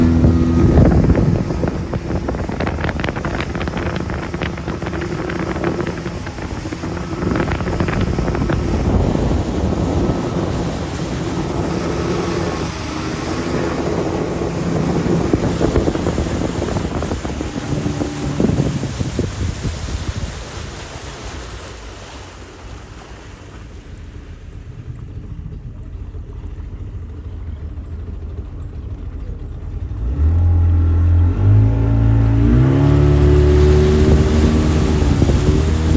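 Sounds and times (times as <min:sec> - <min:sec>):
wind buffeting microphone: 0:00.0 - 0:22.1, 0:22.7 - 0:35.9
motorboat engine running: 0:00.0 - 0:35.9
water rushing past hull: 0:00.0 - 0:35.9.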